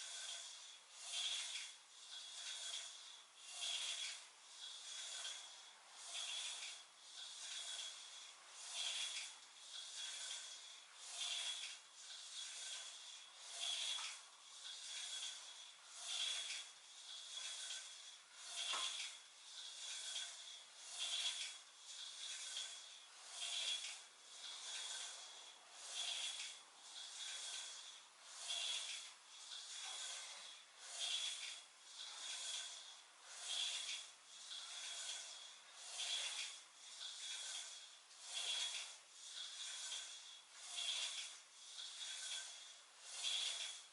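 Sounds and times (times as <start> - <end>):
person breathing rhythmically: 0.0 - 43.9.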